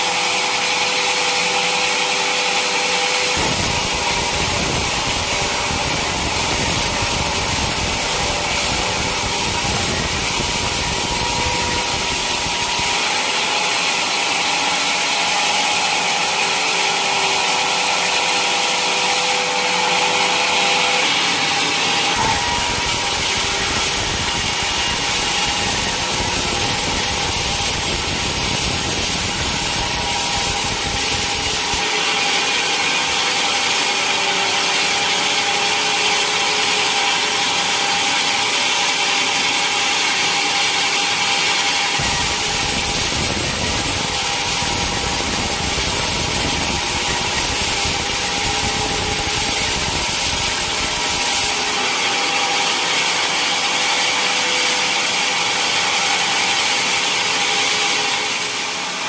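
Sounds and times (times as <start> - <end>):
sawmill blade cutting log: 0.0 - 59.0.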